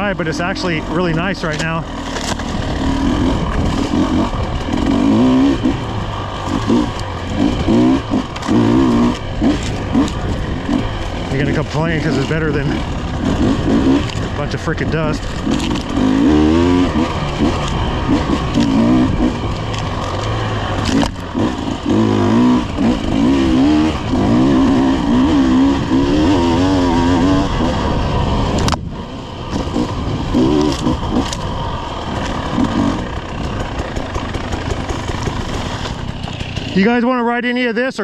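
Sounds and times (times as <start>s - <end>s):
off-road vehicle engine revving: 0.0s - 37.7s
wind: 0.0s - 38.0s.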